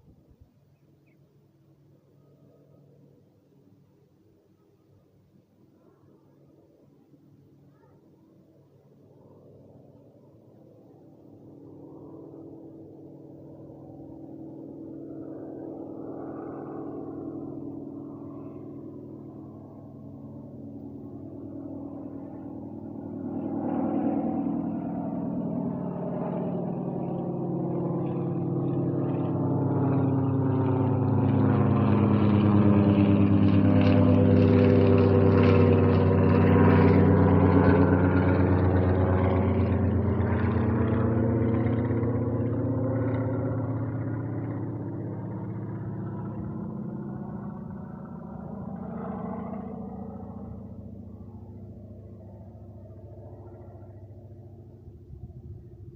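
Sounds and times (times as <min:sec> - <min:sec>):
airplane engine drone: 0:00.0 - 0:55.9.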